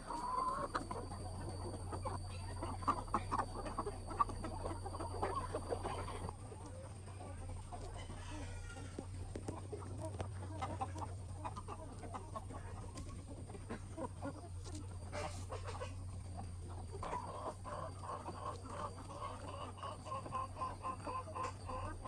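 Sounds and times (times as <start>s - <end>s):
low hum: 0.0s - 19.8s
chickens clucking: 0.0s - 22.0s.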